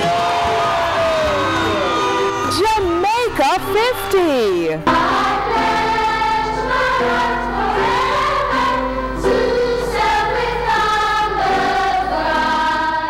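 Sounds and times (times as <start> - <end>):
choir singing sustained chords: 0.0 - 13.0.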